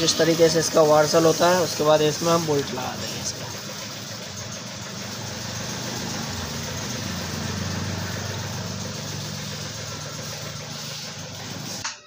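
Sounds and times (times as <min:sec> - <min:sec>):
low engine hum: 0:00.0 - 0:11.8.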